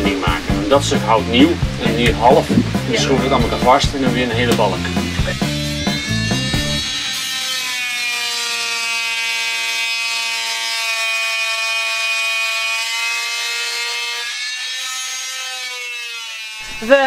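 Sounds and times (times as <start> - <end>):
oscillating multi-tool cutting wood: 1.1 - 17.0.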